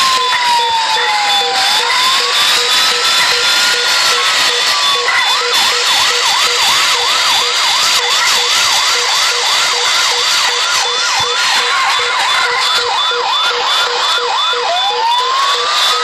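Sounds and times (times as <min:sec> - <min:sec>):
ambulance siren: 0:00.0 - 0:16.0.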